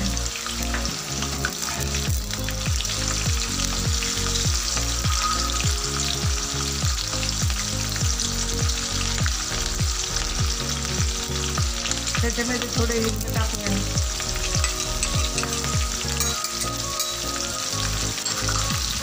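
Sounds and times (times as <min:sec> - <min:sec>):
garlic sizzling in hot oil: 0:00.0 - 0:19.0.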